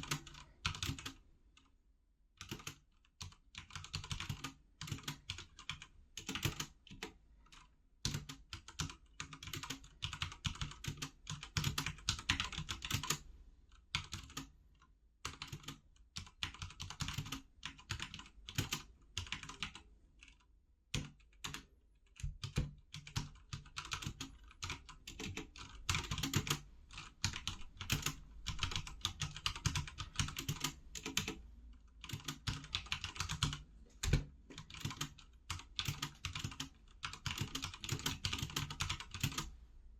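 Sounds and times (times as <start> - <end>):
mechanical keyboard typing: 0.0 - 1.2, 2.4 - 13.2, 13.9 - 14.5, 15.3 - 31.4, 32.0 - 39.5.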